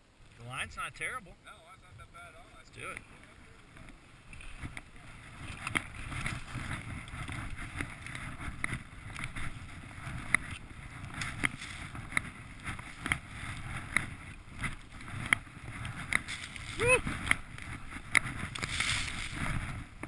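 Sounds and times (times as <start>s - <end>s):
skis running through snow: 2.5s - 20.0s
wind on microphone: 2.8s - 20.0s.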